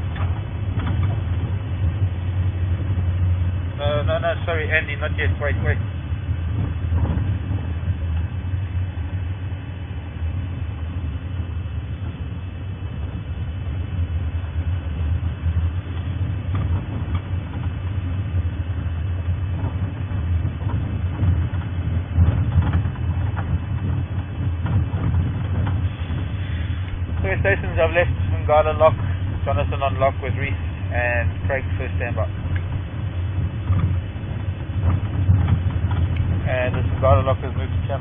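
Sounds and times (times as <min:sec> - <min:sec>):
vehicle engine rumbling: 0:00.0 - 0:38.0.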